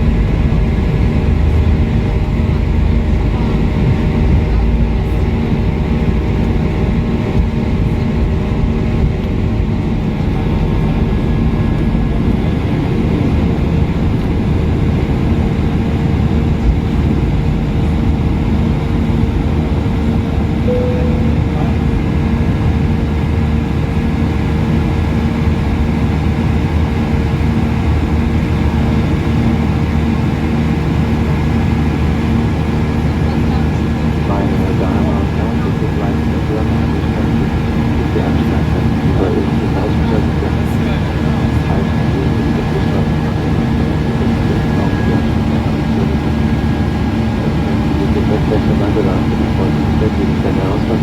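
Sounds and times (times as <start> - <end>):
airplane cabin engine rumble: 0.0 - 51.0.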